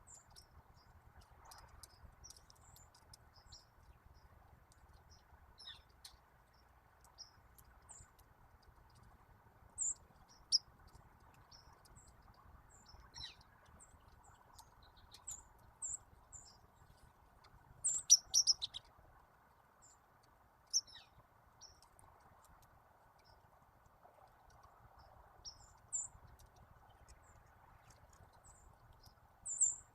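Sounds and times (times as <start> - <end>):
songbirds chirping: 0.0 - 29.9.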